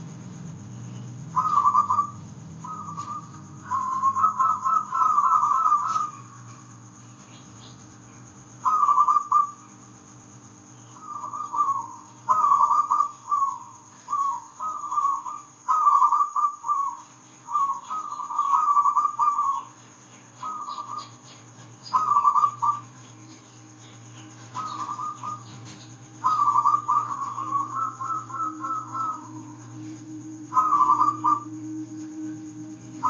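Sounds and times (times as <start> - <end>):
steady low hum: 0.0 - 33.0
dove cooing: 1.1 - 7.0, 8.6 - 9.7, 11.0 - 33.0.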